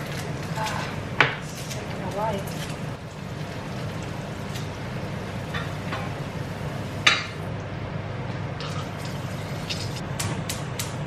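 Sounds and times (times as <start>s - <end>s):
oven fan humming: 0.0s - 11.0s.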